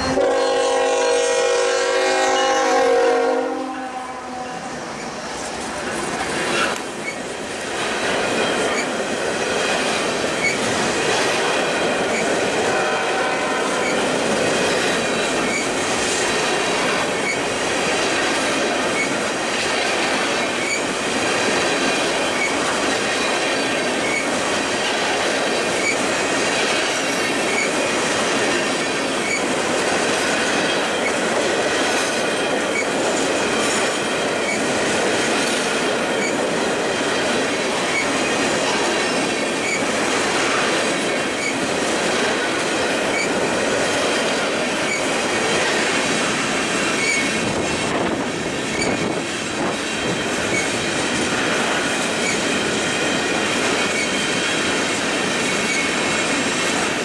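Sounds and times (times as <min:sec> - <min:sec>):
freight train wheels on track: 0:00.0 - 0:57.0.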